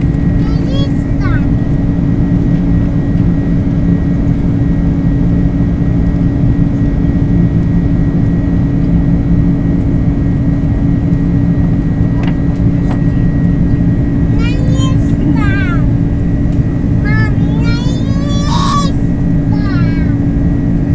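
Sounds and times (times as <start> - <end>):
jet airliner cabin noise: 0.0 - 20.9.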